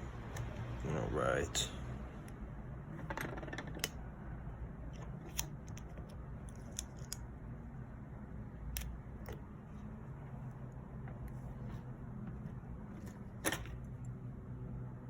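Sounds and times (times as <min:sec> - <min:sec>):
steady low hum: 0:00.0 - 0:03.2, 0:03.8 - 0:15.0.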